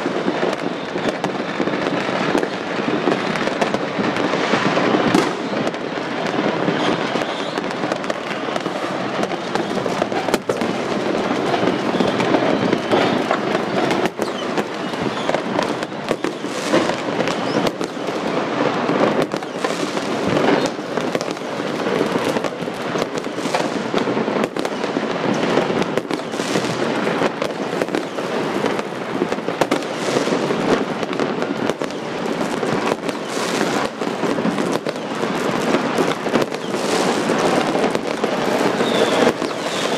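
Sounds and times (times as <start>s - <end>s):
firecracker bangs: 0.0s - 39.9s
fireworks crackling: 0.0s - 39.9s.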